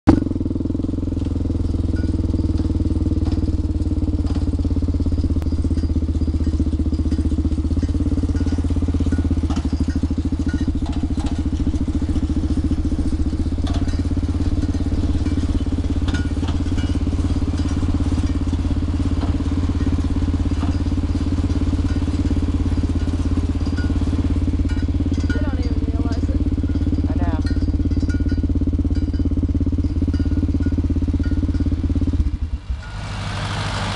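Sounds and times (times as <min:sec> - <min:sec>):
tractor engine droning: 0:00.0 - 0:33.9
faint clicks and rattles: 0:00.1 - 0:32.9.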